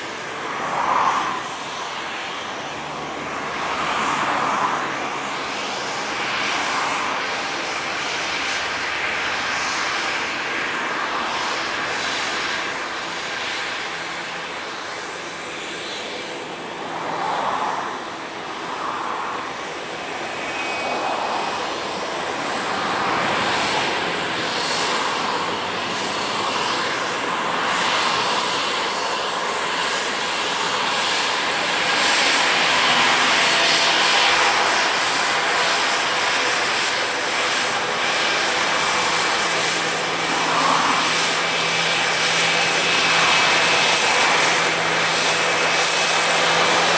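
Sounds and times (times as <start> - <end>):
jet engines rushing: 0.0 - 46.9.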